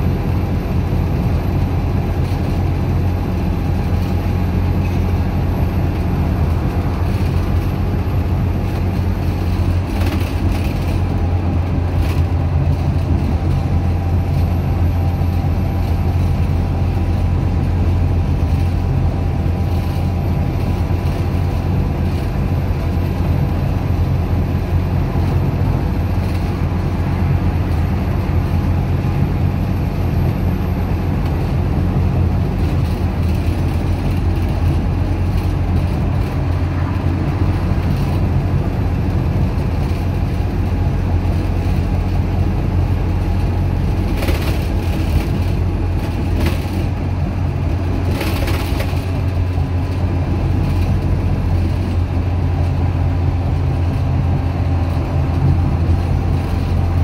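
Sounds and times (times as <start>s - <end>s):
bus diesel engine drone: 0.0s - 57.0s
road noise: 0.0s - 57.0s.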